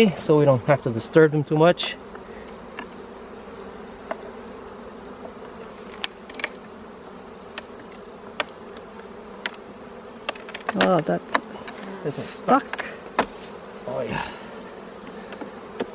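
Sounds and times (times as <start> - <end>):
bees buzzing: 0.0 - 15.9.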